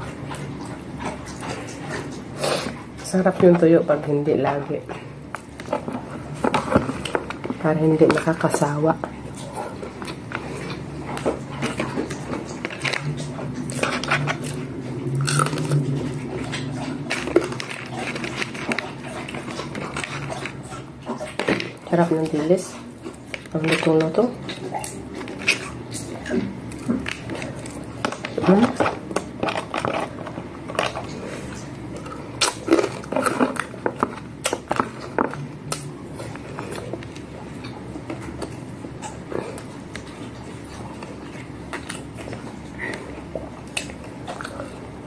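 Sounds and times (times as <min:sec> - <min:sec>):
crunchy chewing: 0:00.0 - 0:03.6, 0:04.5 - 0:45.0
low steady hum: 0:00.0 - 0:45.0.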